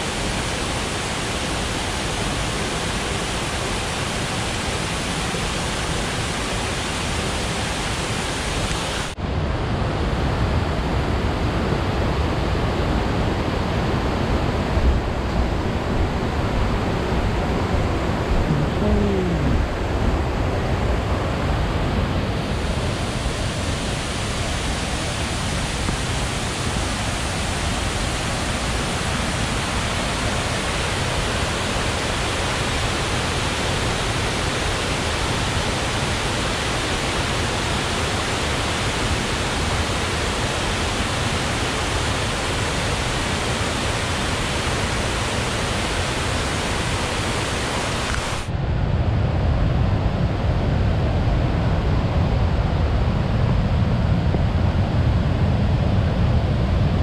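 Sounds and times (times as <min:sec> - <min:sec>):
river pouring over rapids: 0:00.0 - 0:48.6.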